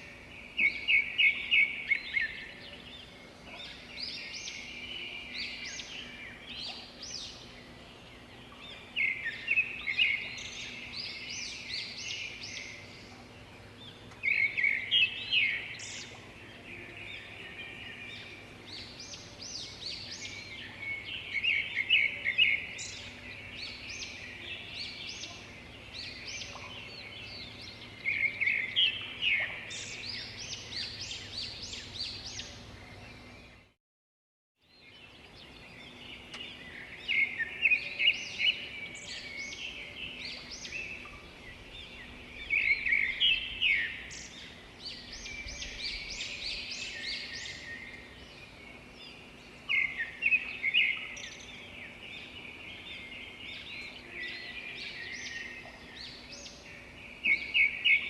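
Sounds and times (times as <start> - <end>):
birds singing rapid notes: 0.0 - 33.8, 34.7 - 58.0
soft bird chirps and calls: 0.0 - 33.8, 34.7 - 58.0.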